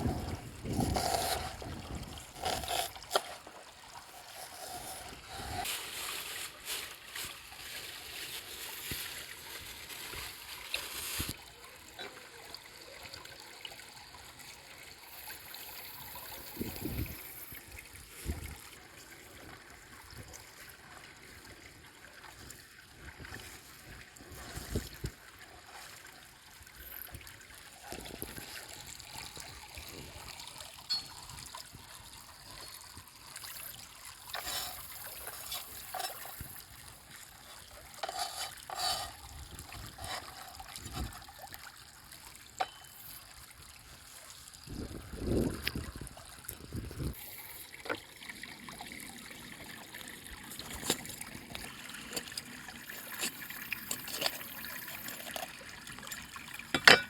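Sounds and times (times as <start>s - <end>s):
river trickling: 0.0s - 57.0s.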